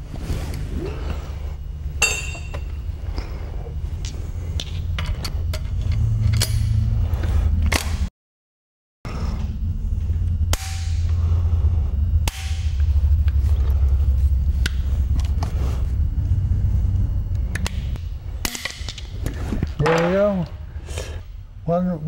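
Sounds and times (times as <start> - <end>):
steady low rumble: 0.0 - 8.1, 9.1 - 22.0.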